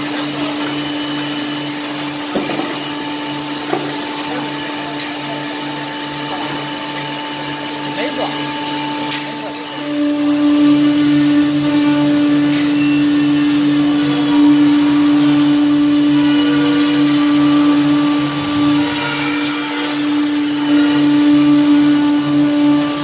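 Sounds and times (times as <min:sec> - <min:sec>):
electric saw humming: 0:00.0 - 0:23.0.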